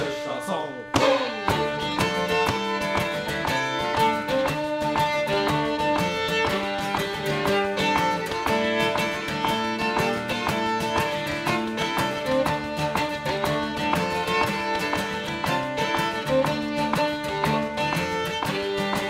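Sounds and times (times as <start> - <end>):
fiddle melody: 0.0 - 19.0
shruti box drone: 0.0 - 19.0
strummed acoustic guitar: 0.0 - 19.0.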